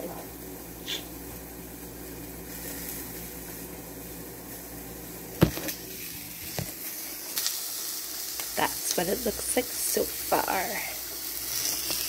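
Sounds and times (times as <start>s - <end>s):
pot boiling and bubbling: 0.0s - 12.0s.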